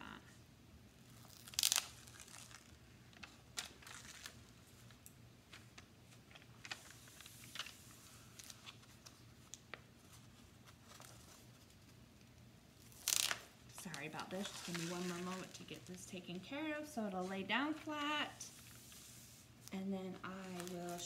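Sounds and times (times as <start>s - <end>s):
paper rustling and crinkling: 1.2s - 12.1s, 12.8s - 16.6s, 17.2s - 21.0s.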